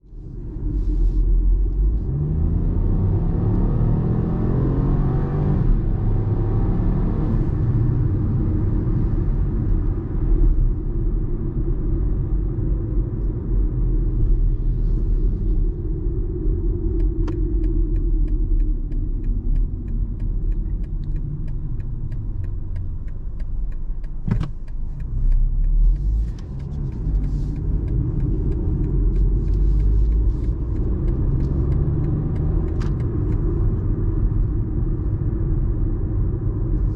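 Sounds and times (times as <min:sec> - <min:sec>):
low road rumble: 0:00.0 - 0:36.9
car engine accelerating hard: 0:01.5 - 0:10.7, 0:14.1 - 0:36.9.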